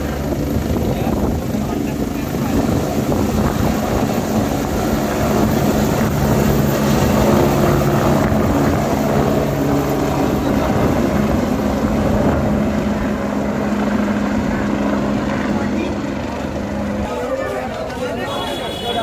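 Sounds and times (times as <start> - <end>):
helicopter turbine and rotor noise: 0.0 - 19.0.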